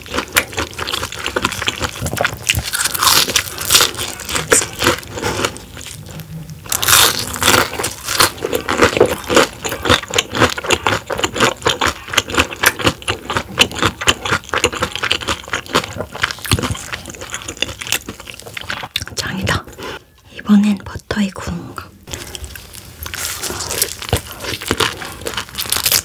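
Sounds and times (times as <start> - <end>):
crunchy chewing of fried food: 0.0 - 20.2, 22.0 - 26.0.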